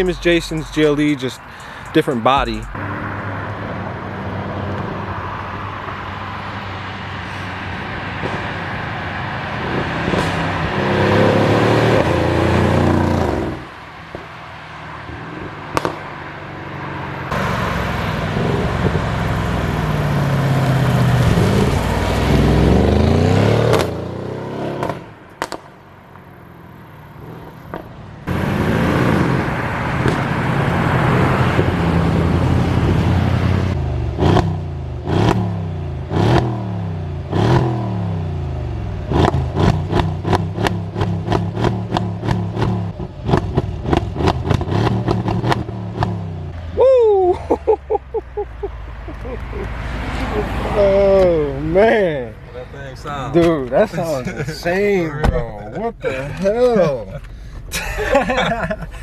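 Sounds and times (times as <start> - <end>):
car engine accelerating and passing: 0.0 - 46.8, 47.9 - 59.0.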